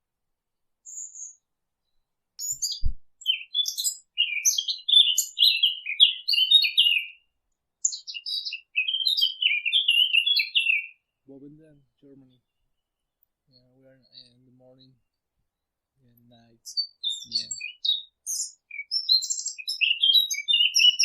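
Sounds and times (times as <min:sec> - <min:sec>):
warbler singing: 0:00.8 - 0:15.1, 0:16.0 - 0:21.0.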